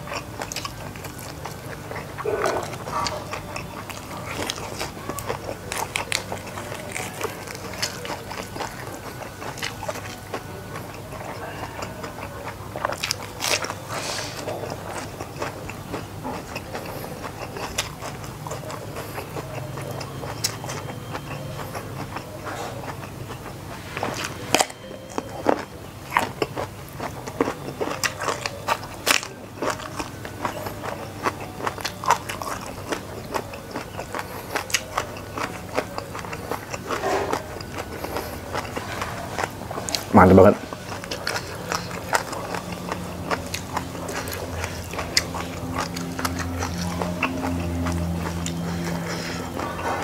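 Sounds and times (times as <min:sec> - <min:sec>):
chewing crunchy vegetables: 0:00.0 - 0:50.0.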